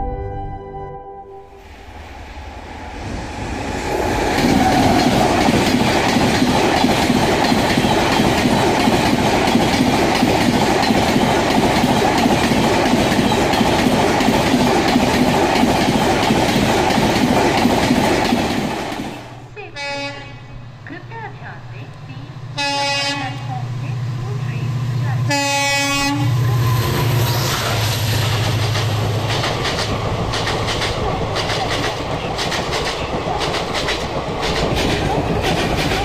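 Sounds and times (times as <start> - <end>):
train wheels rushing on rails: 1.6 - 20.0, 20.8 - 36.0.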